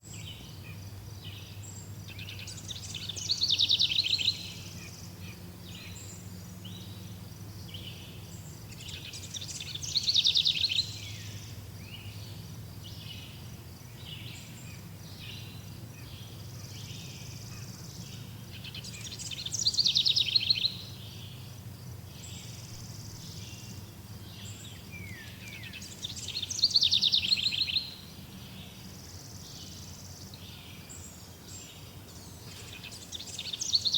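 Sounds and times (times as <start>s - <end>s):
low steady hum: 0.0s - 33.9s
soft bird calls: 0.0s - 33.9s
songbird trilling: 0.0s - 33.9s.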